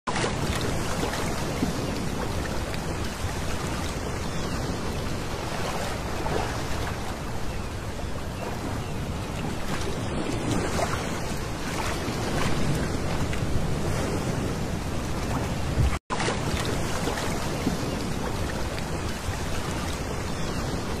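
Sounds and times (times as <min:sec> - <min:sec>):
wind rumble on microphone: 0:00.1 - 0:21.0.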